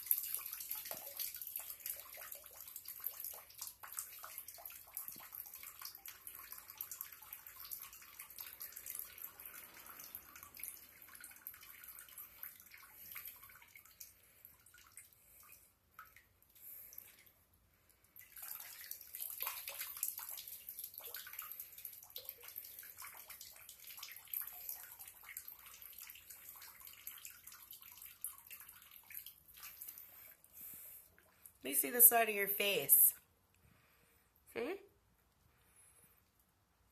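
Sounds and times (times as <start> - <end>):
water trickling into bathtub: 0.0 - 33.9.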